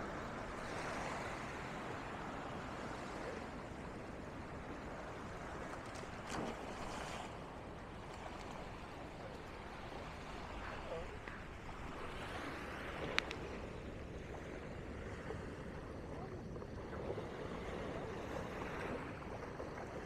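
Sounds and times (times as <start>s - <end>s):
surf washing on beach: 0.0s - 20.0s.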